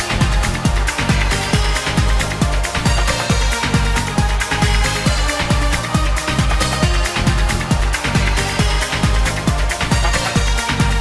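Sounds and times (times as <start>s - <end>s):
electronic dance music: 0.0s - 11.0s
kick drum beat: 0.0s - 11.0s.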